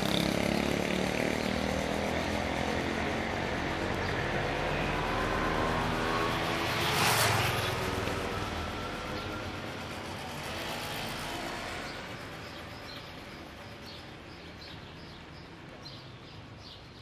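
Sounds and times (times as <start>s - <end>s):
vehicle passing: 0.0s - 15.4s
street traffic: 0.0s - 17.0s.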